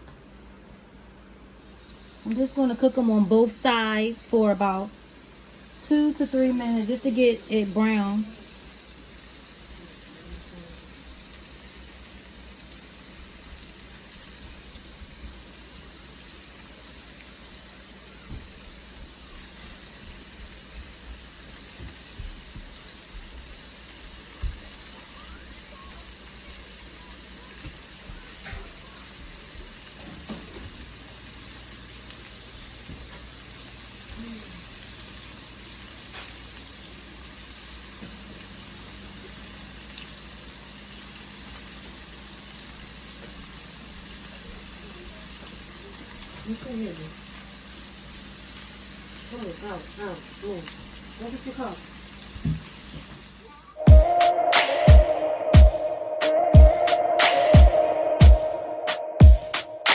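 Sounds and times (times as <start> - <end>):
meatballs sizzling in oil: 1.6 - 53.7.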